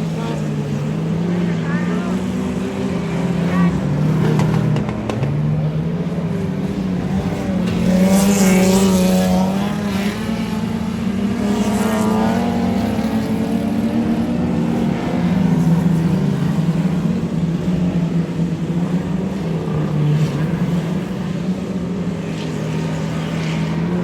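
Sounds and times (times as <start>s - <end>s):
race car engines droning: 0.0s - 24.0s
race cars passing close: 0.0s - 24.0s.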